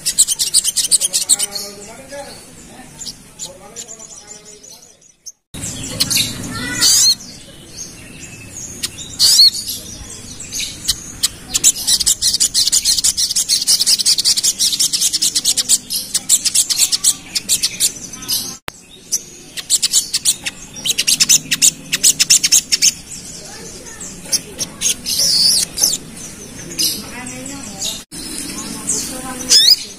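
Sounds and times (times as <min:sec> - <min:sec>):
sunbird singing: 0:00.0 - 0:29.9.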